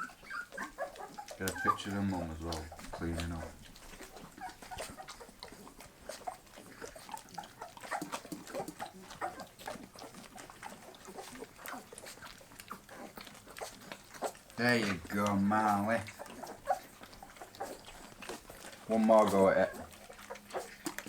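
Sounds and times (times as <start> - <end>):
dogs eating wet food: 0.0 - 21.0.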